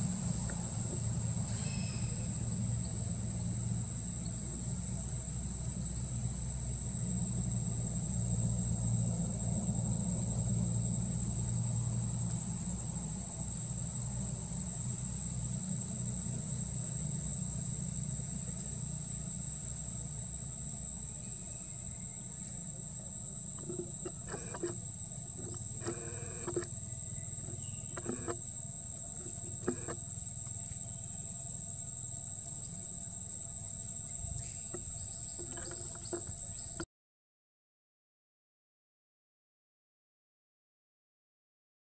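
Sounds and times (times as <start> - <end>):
high-pitched insect drone: 0.3 - 36.8.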